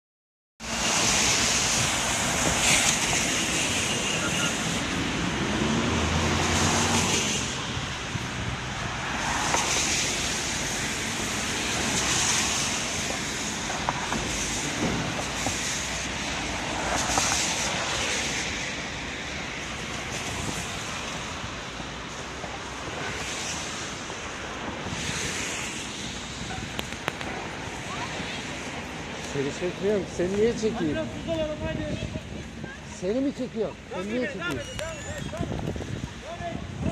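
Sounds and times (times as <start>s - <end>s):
tyres hissing on wet road: 0.6s - 36.9s.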